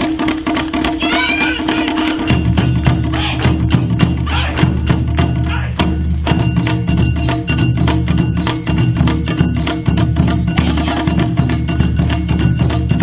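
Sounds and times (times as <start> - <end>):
fast clacking percussion beat: 0.0 - 13.0.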